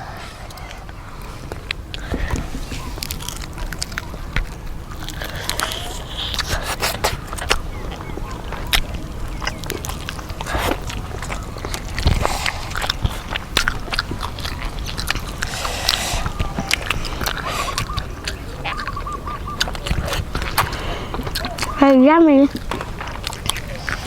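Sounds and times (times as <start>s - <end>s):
crunching and chewing fried chicken: 0.0s - 24.0s.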